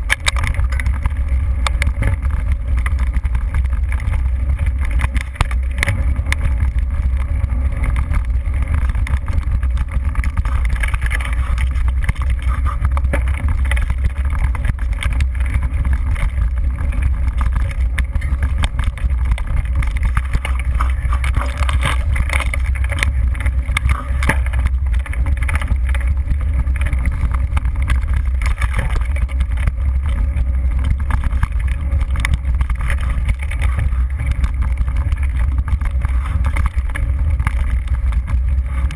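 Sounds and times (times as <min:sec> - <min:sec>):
bike knocks and rattles: 0:00.0 - 0:38.9
wind and ground rumble: 0:00.0 - 0:38.9.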